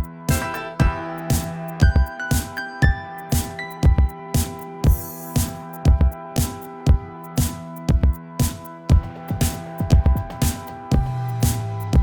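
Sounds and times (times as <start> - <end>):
hi-hats: 0.0 - 12.0
kick drum beat: 0.0 - 12.0.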